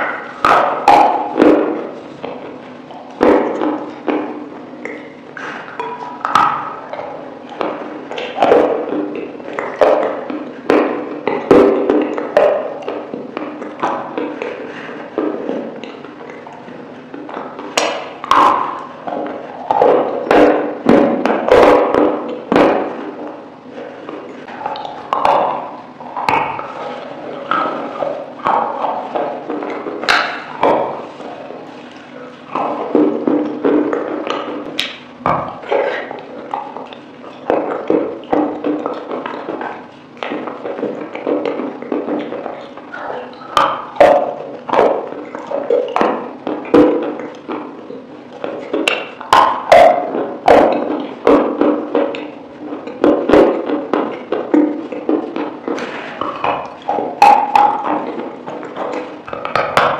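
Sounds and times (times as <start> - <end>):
chewing chicken wing: 0.0 - 59.9
lip smacks: 0.0 - 59.9.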